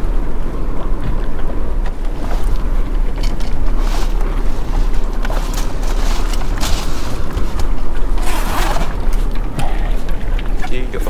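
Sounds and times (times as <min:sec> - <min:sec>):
water noise around boat: 0:00.0 - 0:11.0
wind buffeting microphone: 0:00.0 - 0:11.0.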